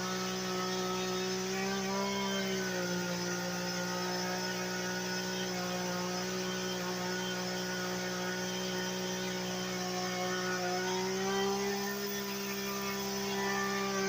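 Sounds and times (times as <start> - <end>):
chainsaw cutting tree trunk: 0.0 - 14.0.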